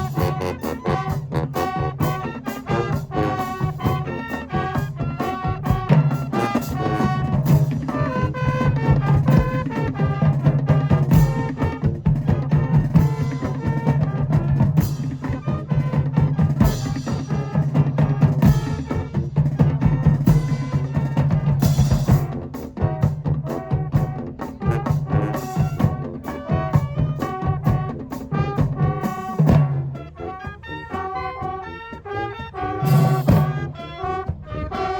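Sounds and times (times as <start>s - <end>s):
drumline drum strokes: 0.0s - 34.9s
marching band brass: 0.0s - 34.9s.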